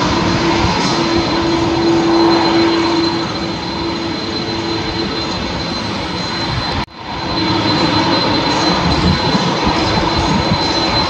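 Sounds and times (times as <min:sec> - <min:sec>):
jet engines whining and rushing: 0:00.0 - 0:11.0.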